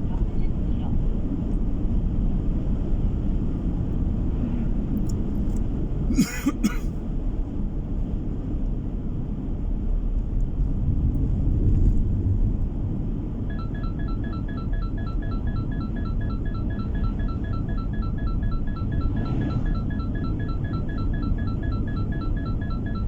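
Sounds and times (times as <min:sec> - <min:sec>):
car cabin road and engine noise: 0:00.0 - 0:23.0.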